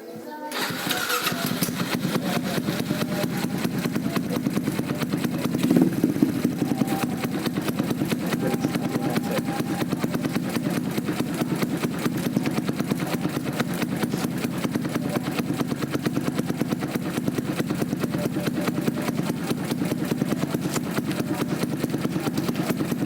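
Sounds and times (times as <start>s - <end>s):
motorcycle engine idling: 0.5s - 23.0s.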